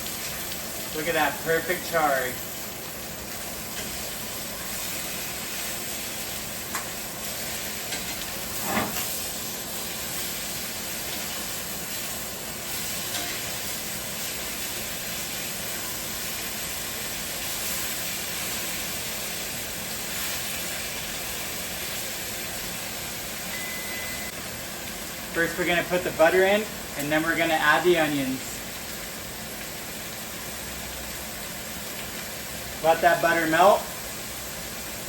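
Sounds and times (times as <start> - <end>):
steaks sizzling in a skillet: 0.0 - 35.0.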